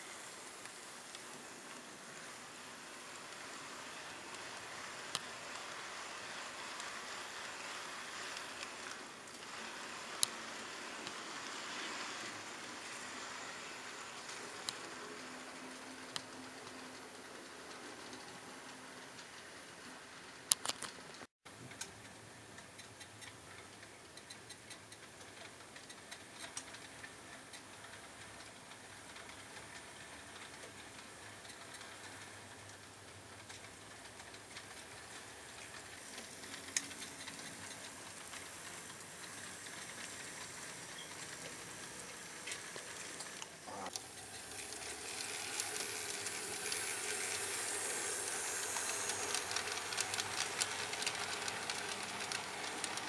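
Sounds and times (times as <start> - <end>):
model train rolling and clicking: 0.0 - 53.0.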